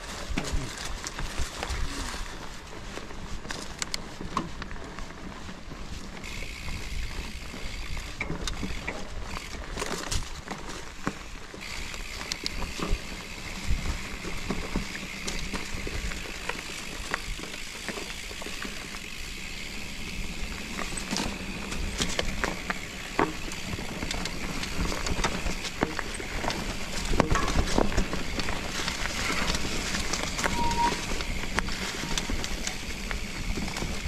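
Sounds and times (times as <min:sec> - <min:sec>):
bike clicking and rattling: 0:00.0 - 0:34.0
bike tyres rumbling on dirt: 0:00.0 - 0:34.0.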